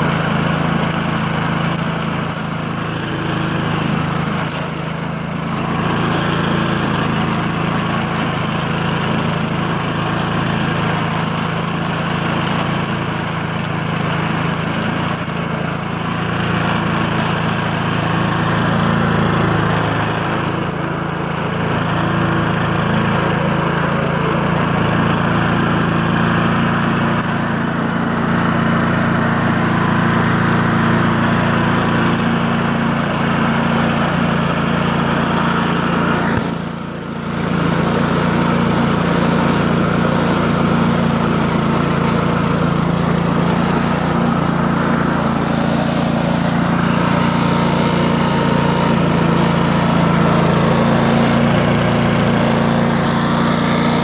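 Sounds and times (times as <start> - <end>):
push mower engine mowing grass: 0.0 - 54.0.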